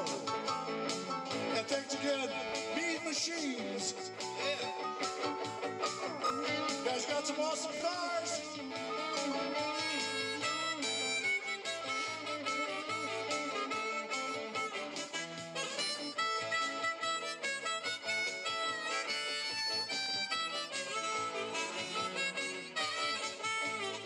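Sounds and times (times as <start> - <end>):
amplified harmonica: 0.0 - 24.0
electric guitars: 0.0 - 24.0.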